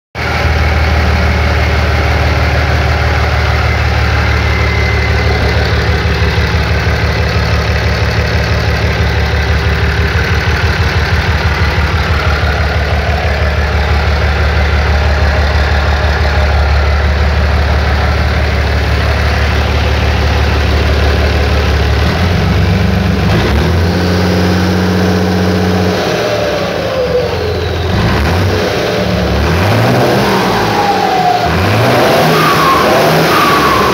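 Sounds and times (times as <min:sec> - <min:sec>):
diesel engine idling: 0:00.2 - 0:33.9
engine whine: 0:00.2 - 0:33.9.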